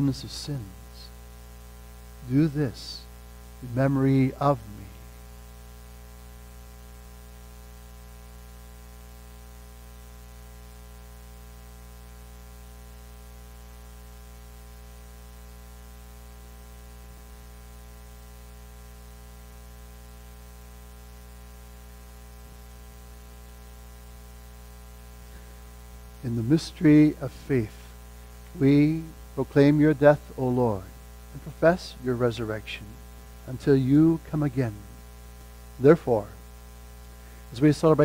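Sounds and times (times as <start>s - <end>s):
electrical mains hum: 0.0s - 38.0s
faint hiss: 0.0s - 38.0s.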